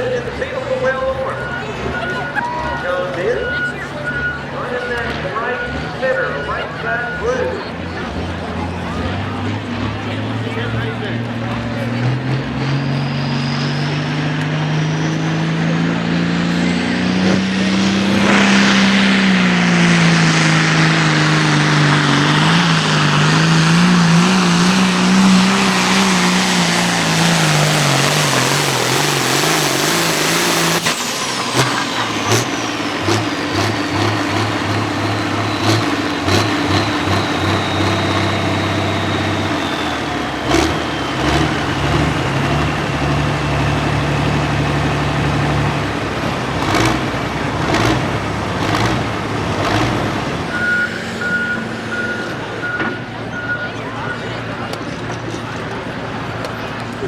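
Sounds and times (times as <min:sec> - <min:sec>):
diesel tractor engine under load: 0:00.0 - 0:57.0.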